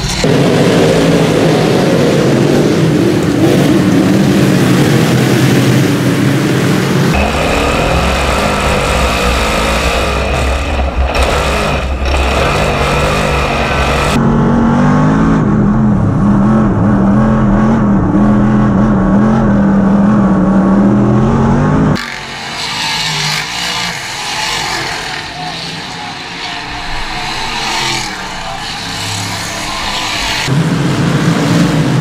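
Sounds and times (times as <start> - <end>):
distant race cars passing: 0.0 - 32.0
race car engine running hard: 0.0 - 32.0.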